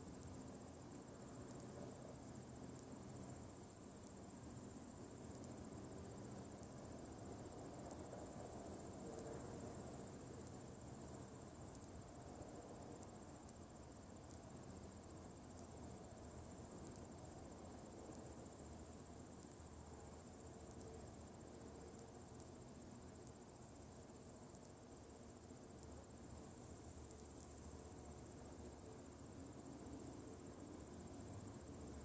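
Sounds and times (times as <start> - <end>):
faint ticks: 0.0 - 32.0.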